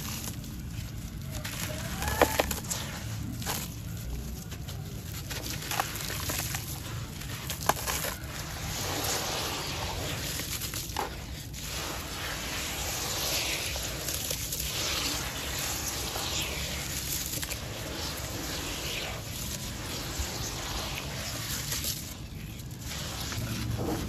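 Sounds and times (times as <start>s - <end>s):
hands squishing wet sand and cement: 0.0s - 24.0s.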